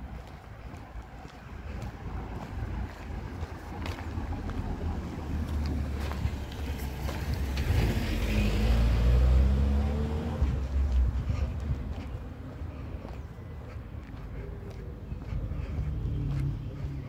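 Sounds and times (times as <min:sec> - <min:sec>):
car passing: 0:01.5 - 0:17.0.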